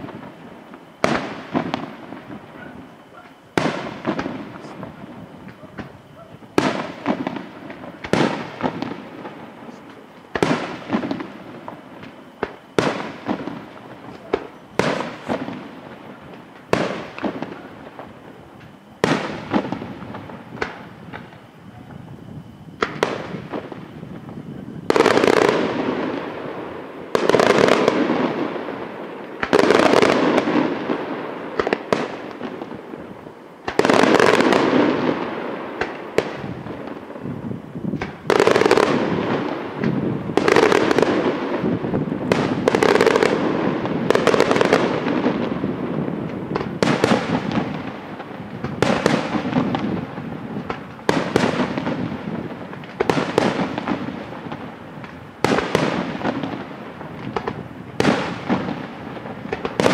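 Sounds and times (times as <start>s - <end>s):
fireworks bangs with rumble: 0.0s - 59.9s.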